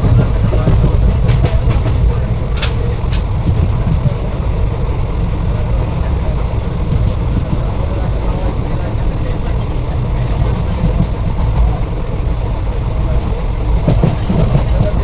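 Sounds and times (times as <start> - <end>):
background voices: 0.0 - 15.0
train rumbling: 0.0 - 15.0.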